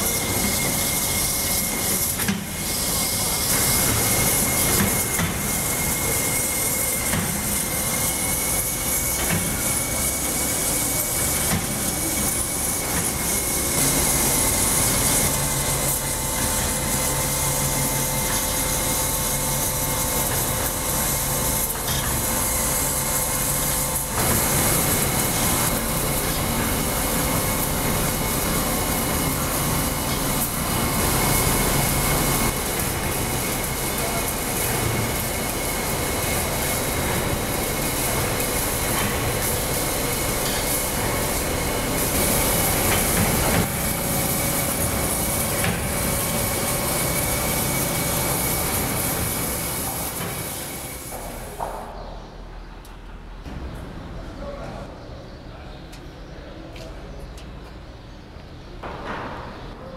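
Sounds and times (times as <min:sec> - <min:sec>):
high machine whine: 0:00.0 - 0:51.7.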